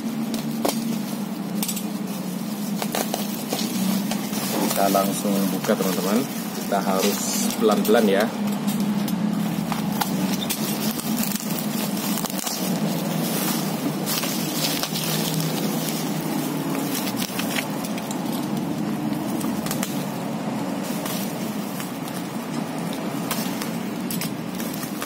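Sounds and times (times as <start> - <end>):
bubble wrap and tape crinkling: 0.0 - 25.0
steady low hum: 0.0 - 25.0.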